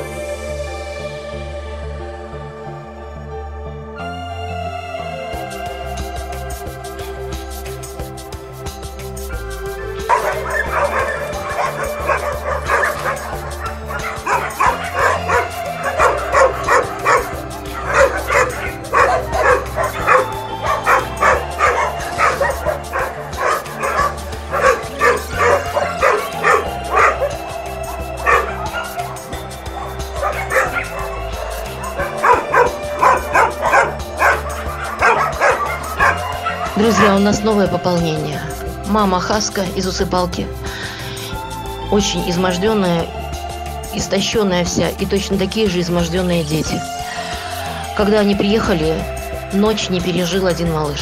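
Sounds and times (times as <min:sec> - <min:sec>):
background music: 0:00.0 - 0:51.0
dogs barking and yelping: 0:05.4 - 0:39.0, 0:40.5 - 0:51.0.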